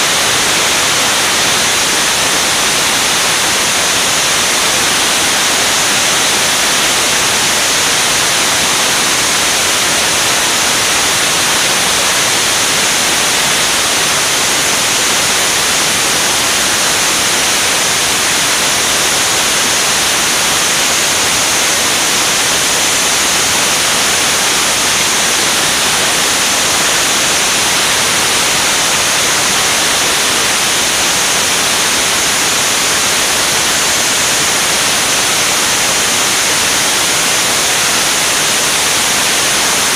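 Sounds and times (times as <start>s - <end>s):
rushing airflow hiss: 0.0s - 39.9s.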